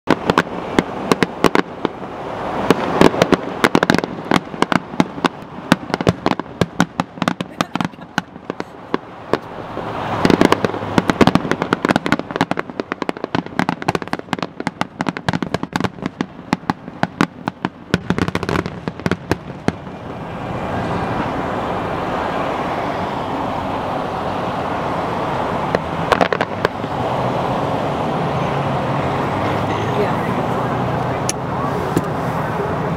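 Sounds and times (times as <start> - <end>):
fireworks bangs and crackling: 0.1 - 32.9
steady background noise: 0.1 - 32.9.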